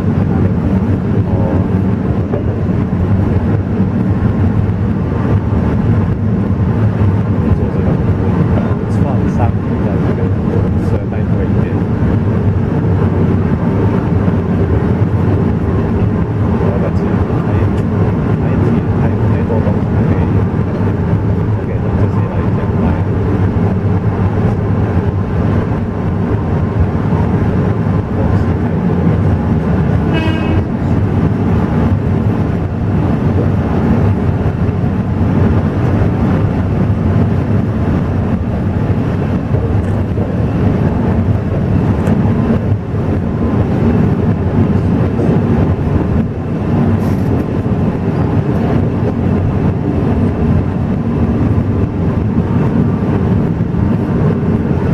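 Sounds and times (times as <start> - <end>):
train rumbling and rattling: 0.0 - 54.9.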